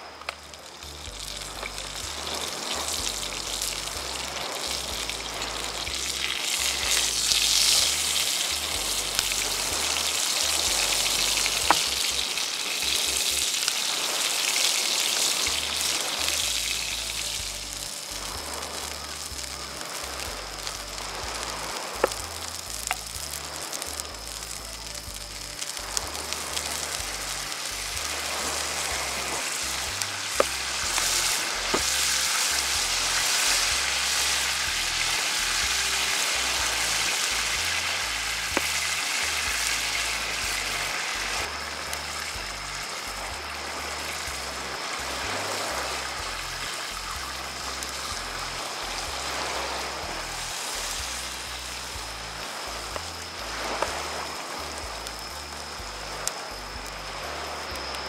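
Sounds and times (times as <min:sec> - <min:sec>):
sauce sizzling and bubbling in skillet: 0:00.0 - 0:58.0.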